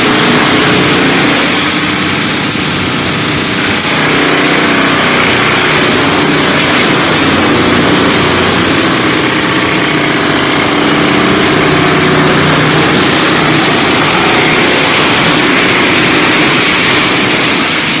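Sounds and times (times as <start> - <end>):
wood chipper running: 0.0 - 18.0.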